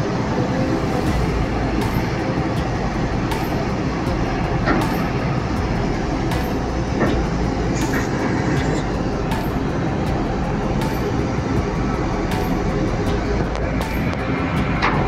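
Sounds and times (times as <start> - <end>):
ship rumble and rush: 0.0 - 15.0.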